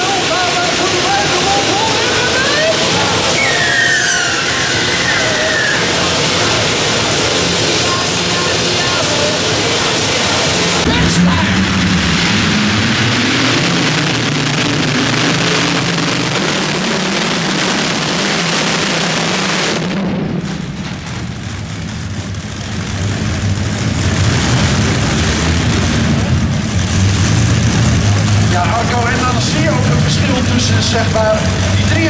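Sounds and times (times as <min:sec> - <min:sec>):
pulling tractor engines roaring: 0:00.0 - 0:32.0.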